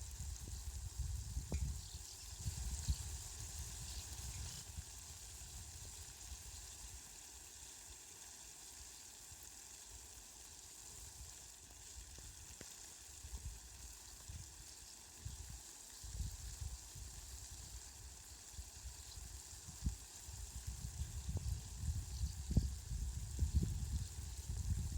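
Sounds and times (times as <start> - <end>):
faint rain hiss: 0.0 - 24.9.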